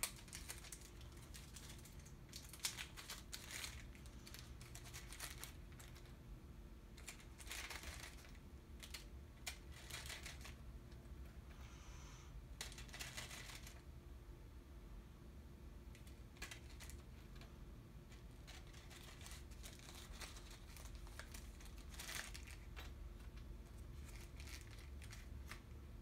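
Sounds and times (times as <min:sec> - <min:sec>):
small parts clicking and rustling: 0:00.0 - 0:06.2, 0:07.0 - 0:11.4, 0:12.6 - 0:13.9, 0:15.9 - 0:25.8.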